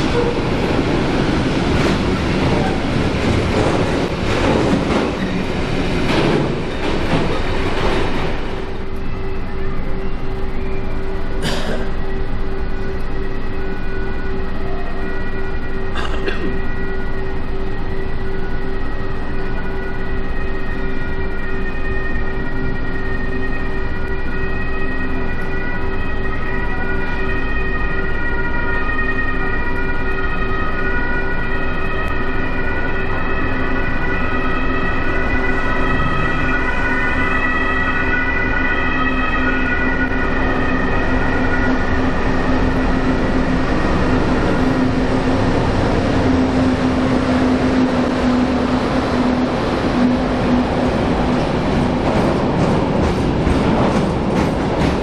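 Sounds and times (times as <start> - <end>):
train high-pitched whine: 0.0 - 55.0
train wheels rumbling on track: 0.0 - 55.0.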